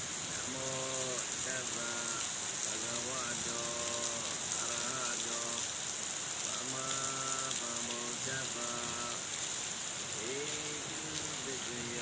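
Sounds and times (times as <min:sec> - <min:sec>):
heavy rain hissing: 0:00.0 - 0:12.0
faint voice singing long notes: 0:00.4 - 0:05.7, 0:06.5 - 0:09.3, 0:10.2 - 0:12.0.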